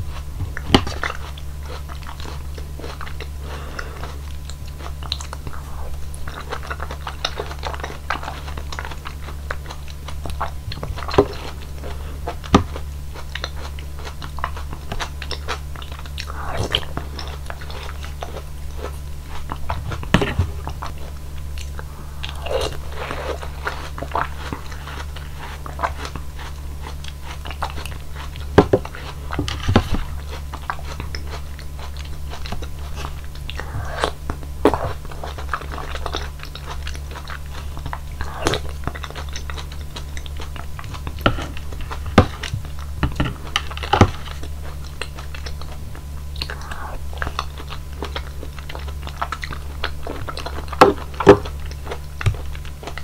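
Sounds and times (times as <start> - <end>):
biting and chewing fruit: 0.0 - 53.0
steady low hum: 0.0 - 53.0.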